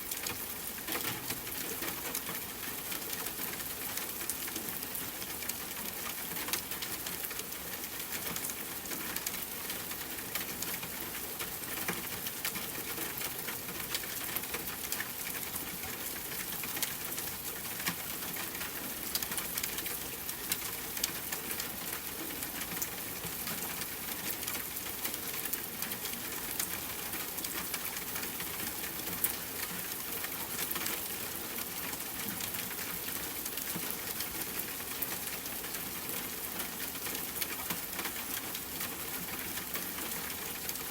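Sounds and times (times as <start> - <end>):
rain pattering on a tent: 0.0 - 40.9.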